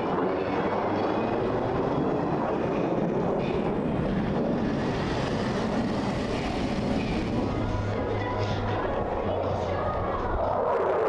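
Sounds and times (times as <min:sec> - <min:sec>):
jet engines rushing past: 0:00.0 - 0:11.0.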